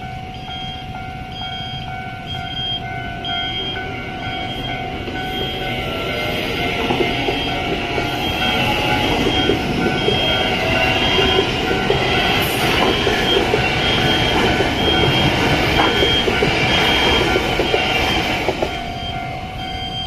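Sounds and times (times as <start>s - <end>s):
crossing warning bell chiming: 0.0s - 20.0s
train wheels rumbling: 0.0s - 20.0s.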